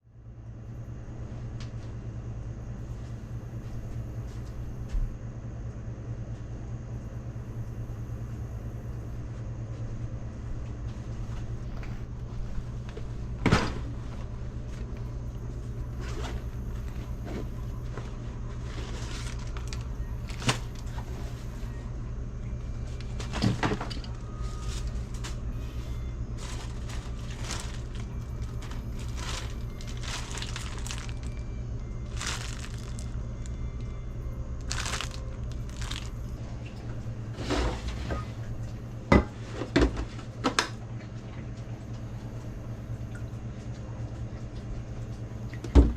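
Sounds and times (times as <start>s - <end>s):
low mechanical motor hum: 0.0s - 45.9s.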